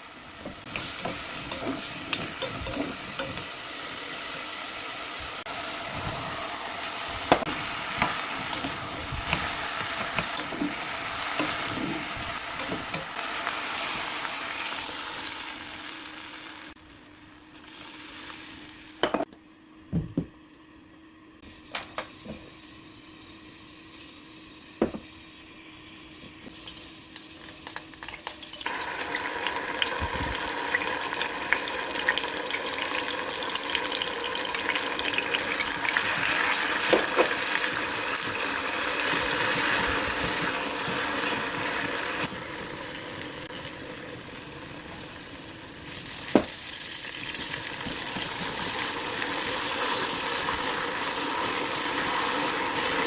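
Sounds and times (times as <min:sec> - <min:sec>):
food sizzling in a frying pan: 0:00.0 - 0:19.2, 0:21.5 - 0:53.0.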